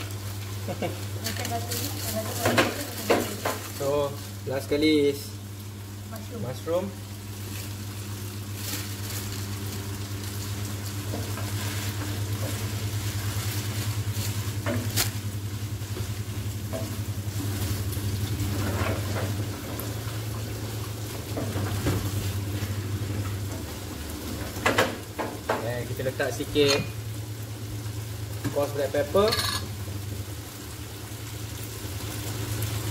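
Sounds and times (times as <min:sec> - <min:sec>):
mushrooms sizzling in a pan: 0:00.0 - 0:32.9.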